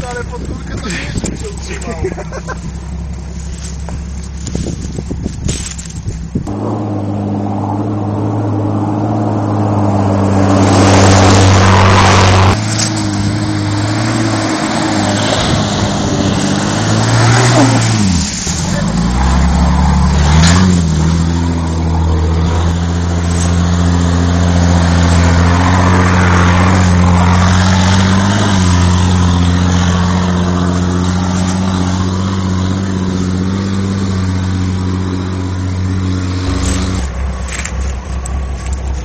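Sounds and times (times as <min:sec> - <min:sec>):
car engine running at high revs: 0:00.0 - 0:39.0
tyres through mud: 0:00.0 - 0:39.0.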